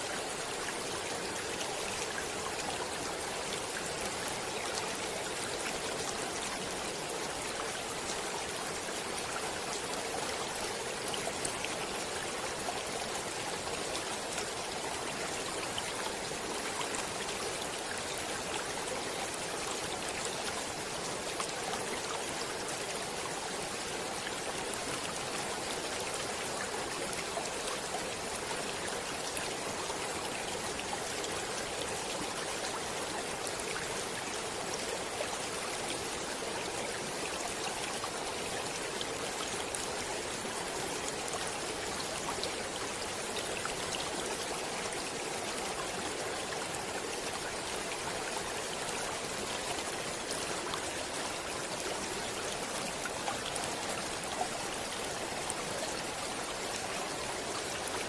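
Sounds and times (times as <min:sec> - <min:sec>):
stream water flowing: 0:00.0 - 0:58.0.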